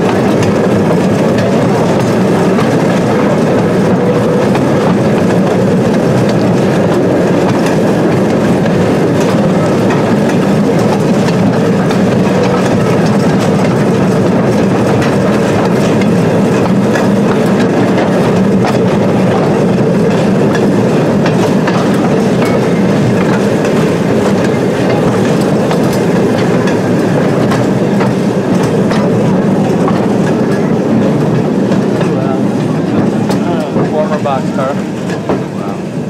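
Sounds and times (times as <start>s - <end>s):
train rumbling on track: 0.0s - 36.0s
wheels clicking over rail joints: 0.0s - 36.0s.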